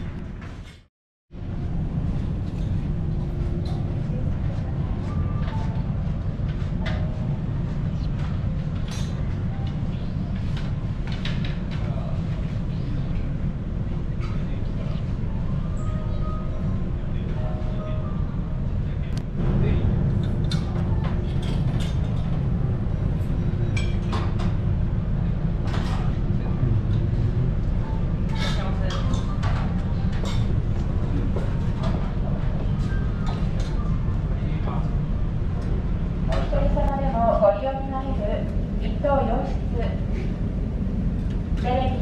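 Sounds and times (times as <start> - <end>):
ship engines rumbling: 1.4 - 42.0.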